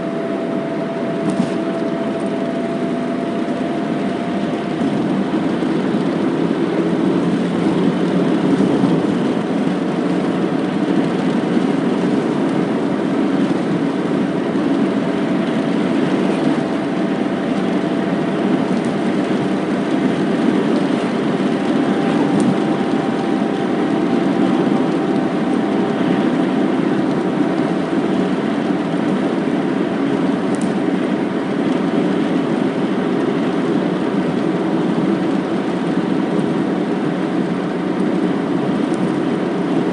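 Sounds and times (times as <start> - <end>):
car engine hum: 0.0 - 39.9
tyre road noise: 0.0 - 39.9.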